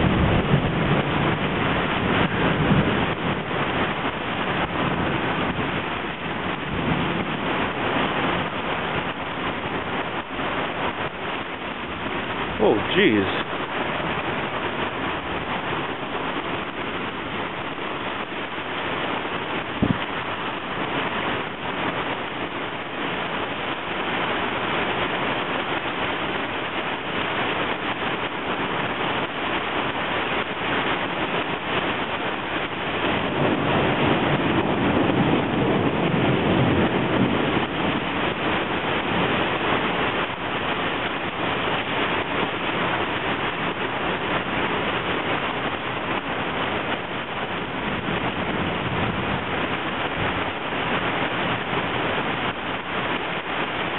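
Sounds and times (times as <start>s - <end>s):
heavy rain pouring on a street: 0.0s - 53.9s.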